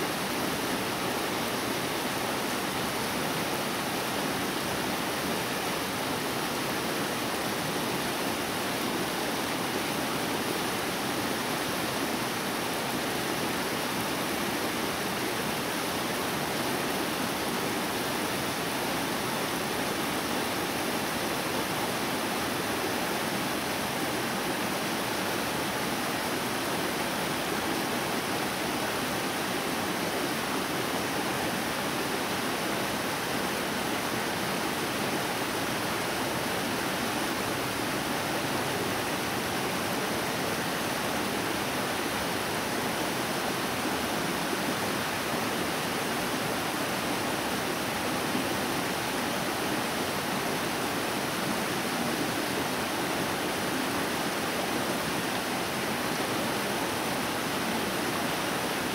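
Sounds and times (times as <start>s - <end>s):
stream rushing over boulders: 0.0s - 58.9s.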